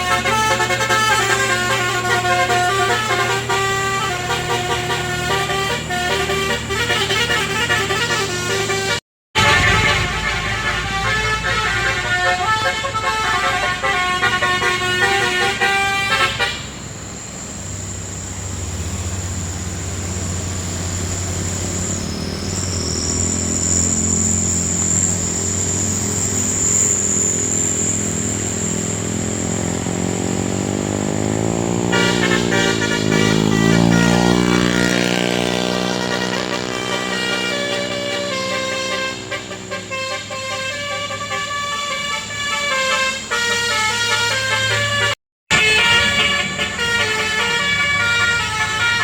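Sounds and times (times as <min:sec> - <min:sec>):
multi-tone truck horn: 0:00.0 - 0:17.0, 0:18.8 - 0:49.0
truck engine running: 0:00.0 - 0:49.0.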